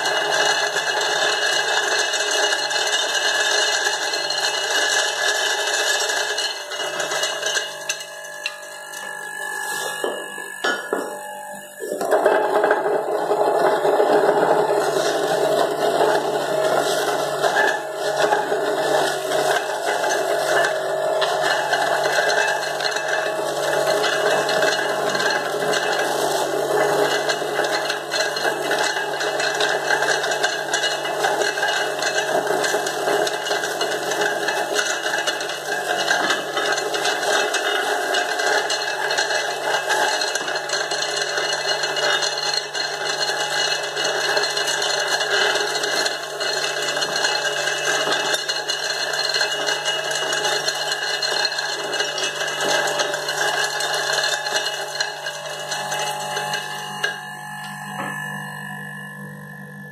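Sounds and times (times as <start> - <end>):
grater shredding fruit: 0.0 - 10.3, 11.5 - 57.2
electric juicer motor humming: 0.0 - 59.9.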